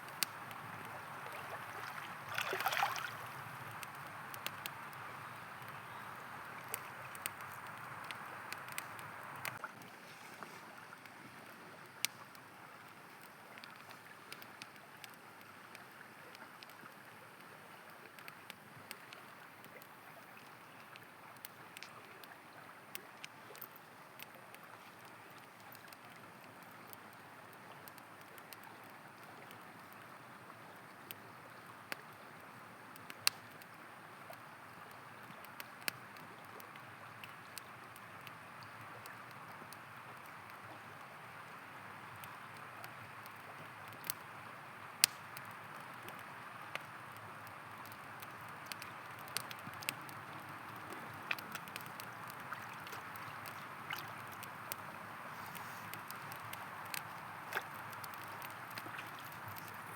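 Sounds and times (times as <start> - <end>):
campfire crackling and popping: 0.0 - 59.9
river water flowing: 0.0 - 59.9.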